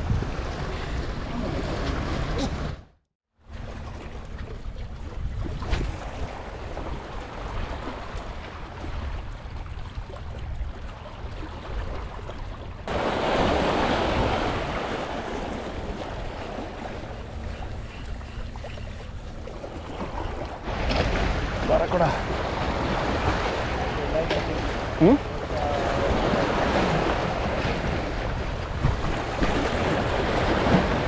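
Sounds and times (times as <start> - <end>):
wind rumbling on microphone: 0.0 - 2.8, 3.6 - 21.7, 22.3 - 31.0
sea waves washing ashore: 0.0 - 4.4, 5.5 - 31.0.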